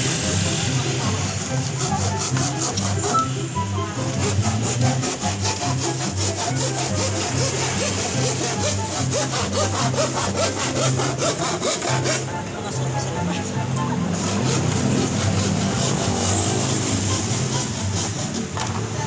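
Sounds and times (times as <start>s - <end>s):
handsaw cutting plywood: 0.0s - 12.4s, 14.0s - 18.7s.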